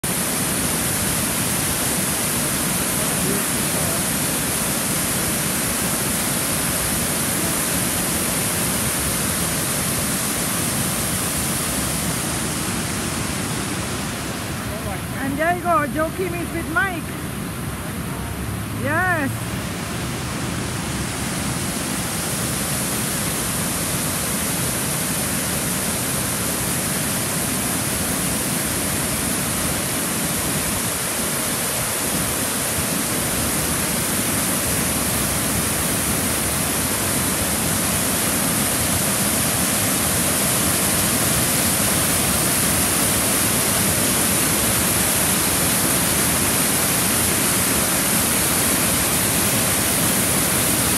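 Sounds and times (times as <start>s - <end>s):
waterfall rushing over rocks: 0.0s - 50.9s.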